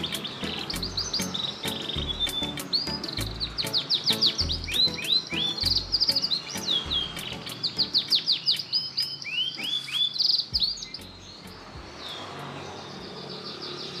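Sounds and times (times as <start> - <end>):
canary singing trills: 0.0 - 14.0.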